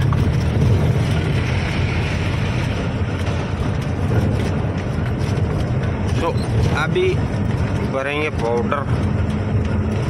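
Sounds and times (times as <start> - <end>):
road and wind noise: 0.0 - 10.0
truck engine drone: 0.0 - 10.0.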